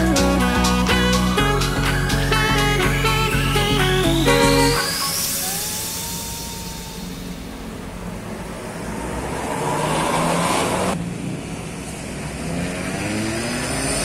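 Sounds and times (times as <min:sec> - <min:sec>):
buses passing on road: 0:00.0 - 0:14.0.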